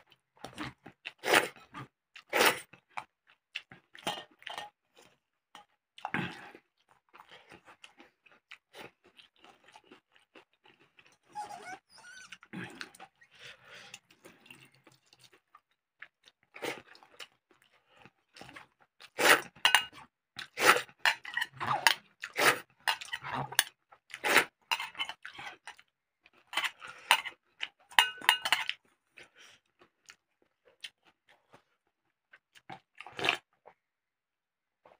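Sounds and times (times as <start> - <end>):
chewing and crunching food: 0.0 - 33.9.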